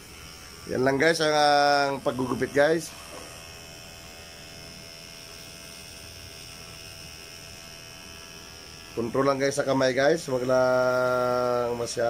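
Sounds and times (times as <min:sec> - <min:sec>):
electric hair clippers humming: 0:00.0 - 0:12.0.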